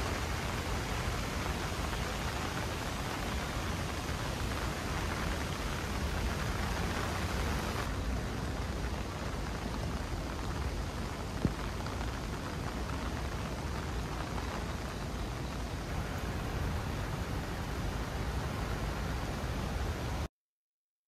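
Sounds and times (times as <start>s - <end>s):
steady rain falling: 0.0s - 20.3s.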